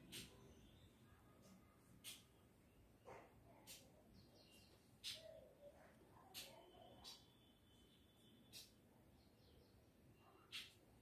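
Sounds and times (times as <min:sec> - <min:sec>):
faint high-pitched chirp: 0:00.0 - 0:11.0.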